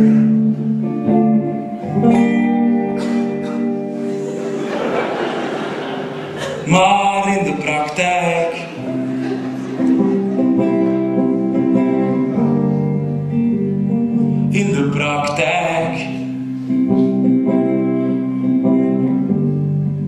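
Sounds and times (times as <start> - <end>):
electric guitar strummed chords: 0.0 - 20.0.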